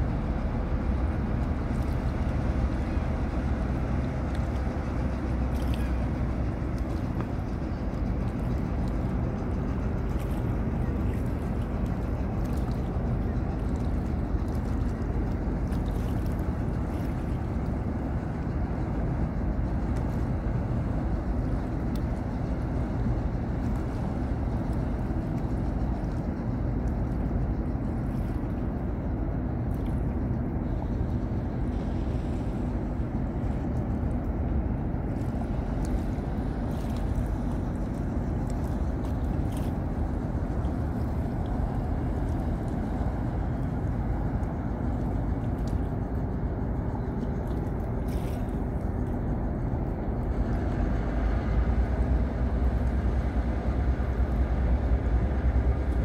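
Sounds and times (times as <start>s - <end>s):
diesel engines rumbling: 0.0s - 56.0s.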